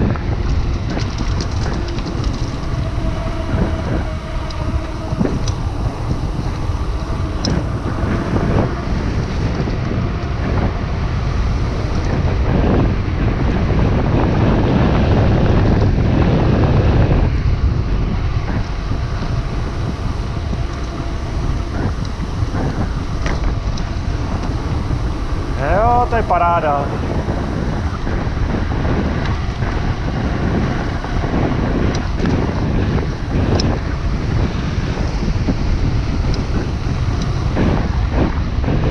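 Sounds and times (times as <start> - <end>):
bike clicks and rattles: 0.0 - 2.8, 9.2 - 25.8, 27.1 - 38.8
bike tyres rolling on asphalt: 0.0 - 38.9
wind rushing over microphone: 0.0 - 38.9.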